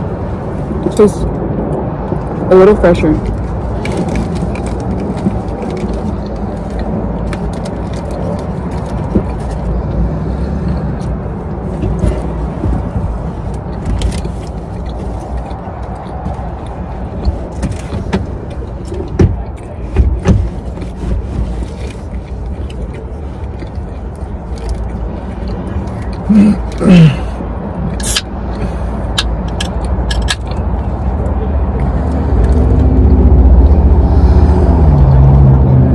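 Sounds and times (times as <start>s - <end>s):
steady low rumble: 0.0s - 35.9s
chewing and food handling: 3.2s - 33.8s.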